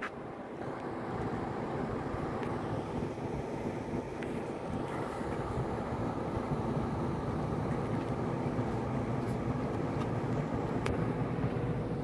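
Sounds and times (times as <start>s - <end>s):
condensing units humming: 0.0s - 12.0s.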